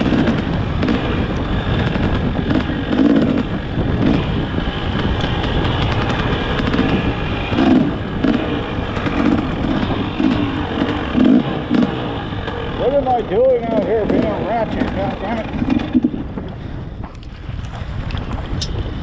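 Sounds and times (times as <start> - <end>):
dirt bike engine revving: 0.0 - 16.6
wind noise on microphone: 0.0 - 19.0.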